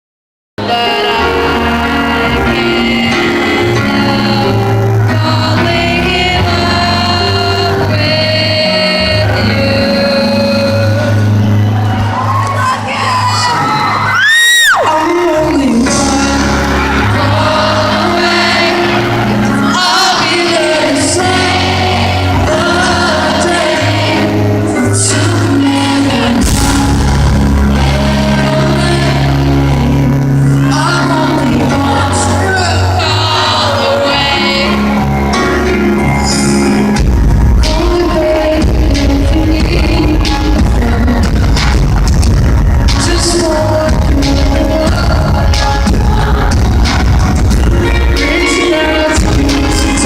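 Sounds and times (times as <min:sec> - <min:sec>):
man singing long notes: 0:00.6 - 0:11.8, 0:14.6 - 0:50.0
male lead vocal: 0:00.6 - 0:12.1, 0:12.8 - 0:50.0
sustained instrumental chords: 0:00.6 - 0:14.1, 0:14.9 - 0:50.0
amplified live pop band: 0:00.6 - 0:50.0.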